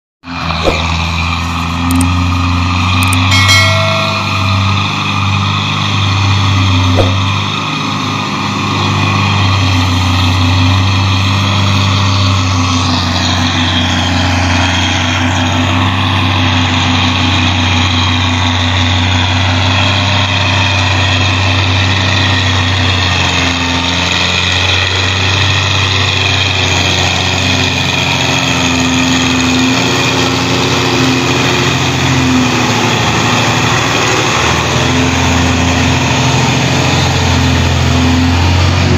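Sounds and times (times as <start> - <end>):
tractor diesel engine under load: 0.2 - 38.9.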